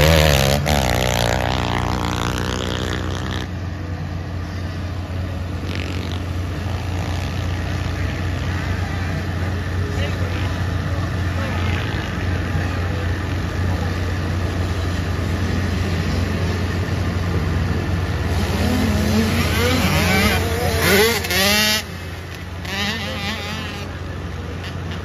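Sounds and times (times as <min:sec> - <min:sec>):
pit bike engines racing: 0:00.0 - 0:25.0.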